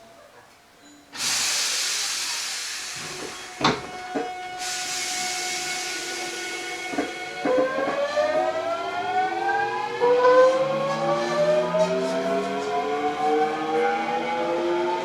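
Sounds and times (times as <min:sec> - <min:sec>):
train motor whine rising: 0:01.2 - 0:15.0.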